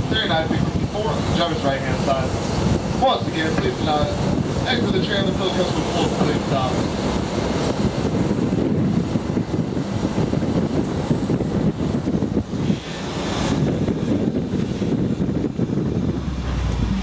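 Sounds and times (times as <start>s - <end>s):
tram rumbling: 0.0s - 17.0s
wind buffeting microphone: 0.0s - 17.0s.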